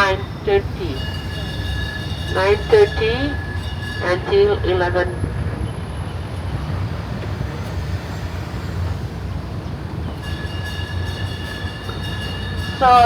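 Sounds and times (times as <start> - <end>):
road train low rumble: 0.0 - 13.0.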